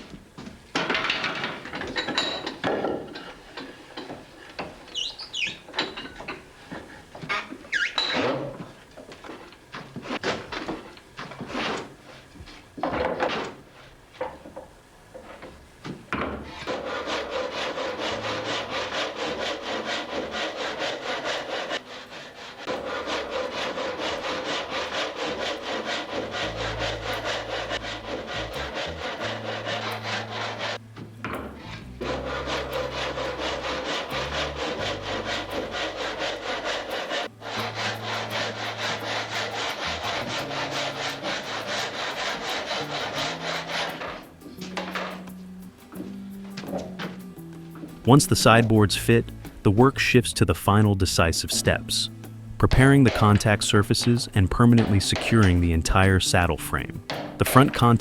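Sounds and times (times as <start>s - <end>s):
hand saw cutting wood: 0.8s - 47.2s, 47.8s - 58.0s.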